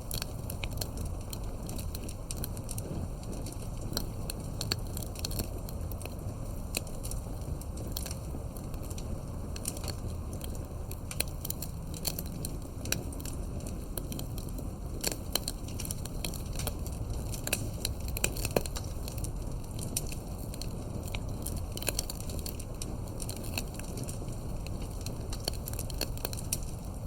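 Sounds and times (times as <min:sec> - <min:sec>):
campfire crackling and popping: 0:00.0 - 0:27.0
low rumble of burning: 0:00.0 - 0:27.0.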